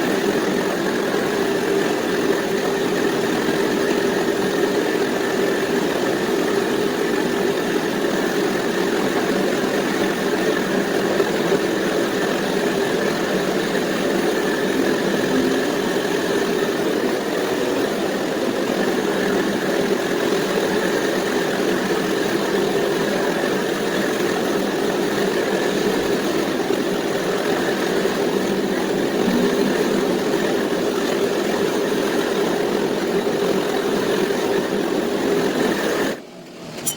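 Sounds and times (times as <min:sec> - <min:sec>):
engine idling through exhaust: 0:00.0 - 0:36.2.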